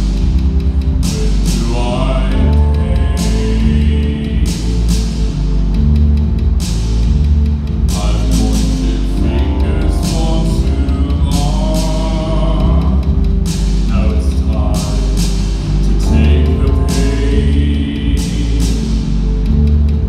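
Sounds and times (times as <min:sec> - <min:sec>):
loud live music with heavy bass: 0:00.0 - 0:20.0
person singing: 0:00.9 - 0:05.5, 0:07.9 - 0:19.6.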